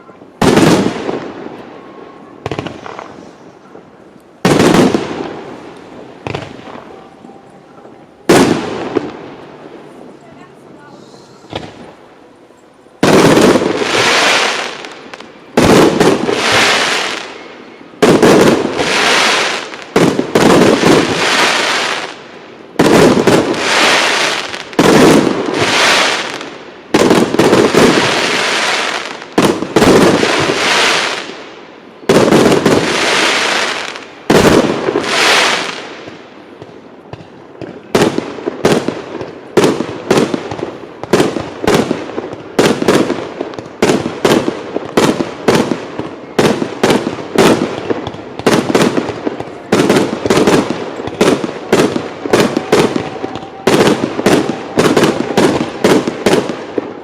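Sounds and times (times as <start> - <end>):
fireworks bangs: 0.0 - 12.3, 13.0 - 57.0.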